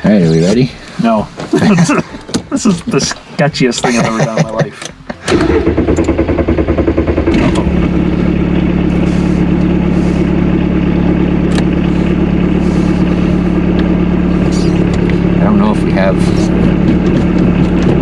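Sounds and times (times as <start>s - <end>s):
diesel engine cranking: 0.0s - 18.0s
diesel engine idling: 0.0s - 18.0s.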